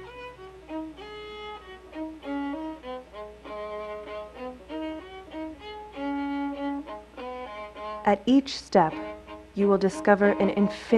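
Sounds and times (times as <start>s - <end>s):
bowed strings melody: 0.0s - 10.9s.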